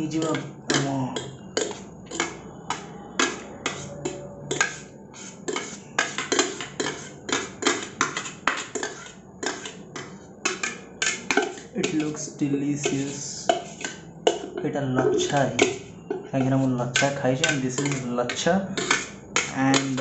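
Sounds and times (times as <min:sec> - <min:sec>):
metal spoon scraping in kettle: 0:01.5 - 0:20.0.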